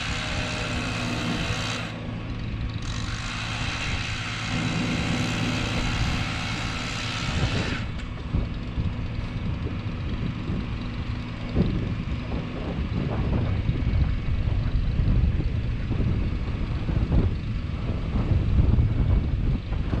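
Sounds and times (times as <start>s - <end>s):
engine with loud hiss: 0.0s - 20.0s
wind buffeting microphone: 0.0s - 20.0s.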